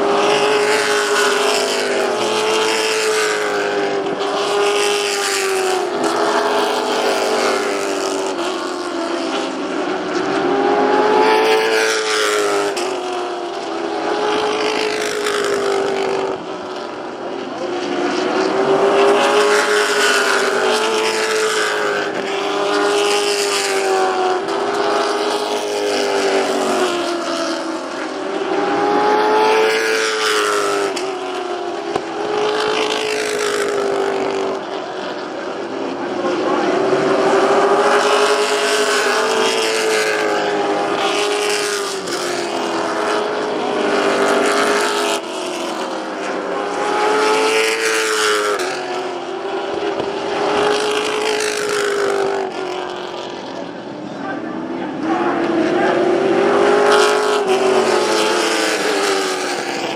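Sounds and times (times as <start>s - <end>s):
stock car engines racing: 0.0s - 59.9s.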